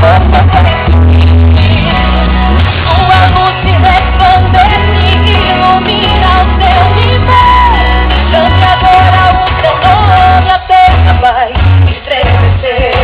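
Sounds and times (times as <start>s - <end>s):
song with singing over loudspeakers: 0.0s - 13.0s.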